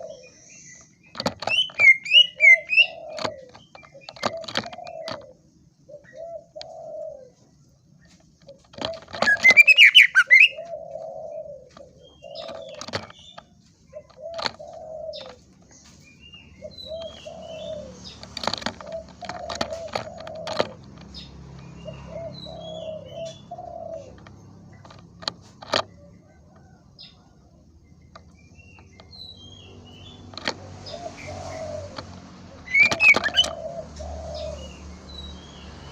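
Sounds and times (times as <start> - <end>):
bird singing rapid chirps: 0.0 - 7.1, 8.1 - 26.2, 26.9 - 35.9.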